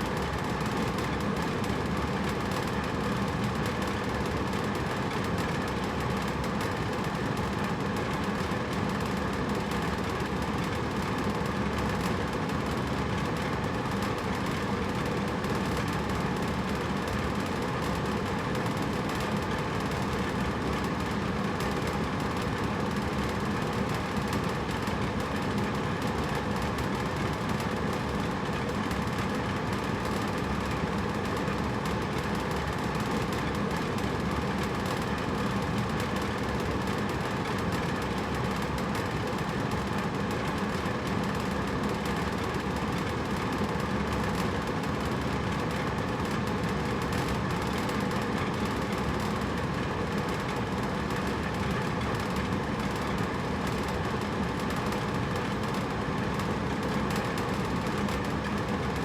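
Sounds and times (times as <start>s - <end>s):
air conditioner humming: 0.0s - 59.0s.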